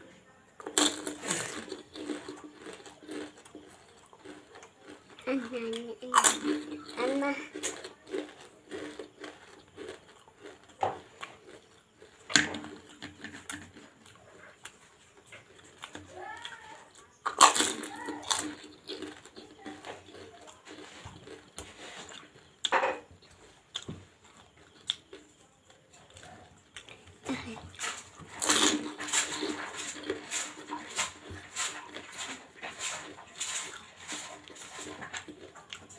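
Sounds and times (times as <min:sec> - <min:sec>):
crunchy shells bitten and chewed: 0:00.6 - 0:35.9.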